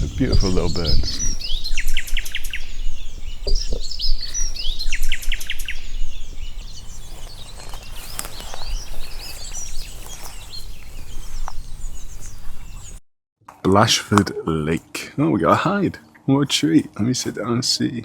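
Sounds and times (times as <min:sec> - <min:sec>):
songbirds chirping and whistling: 0:00.0 - 0:13.0, 0:13.7 - 0:18.0.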